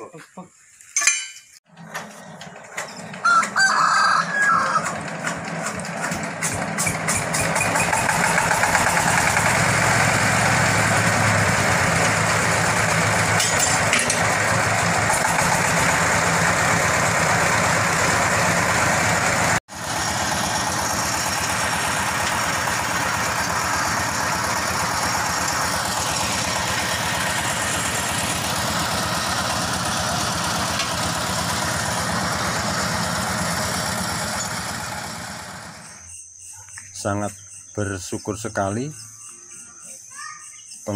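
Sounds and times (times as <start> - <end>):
diesel engine running: 1.6 - 36.1.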